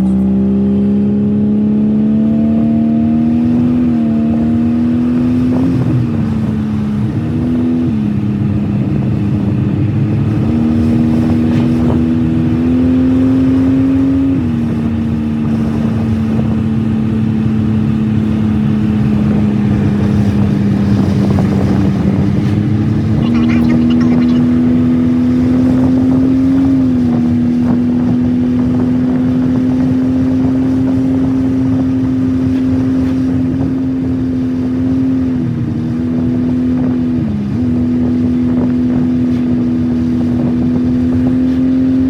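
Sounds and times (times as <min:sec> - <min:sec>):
car engine shifting gears: 0:00.0 - 0:42.0.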